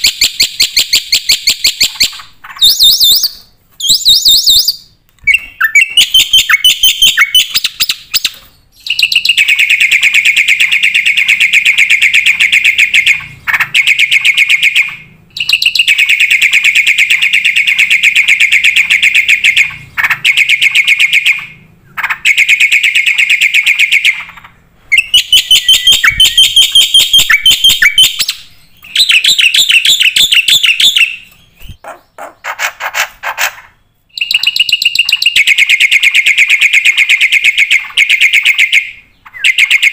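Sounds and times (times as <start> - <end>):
bird singing fast repeated notes: 0.0 - 39.9.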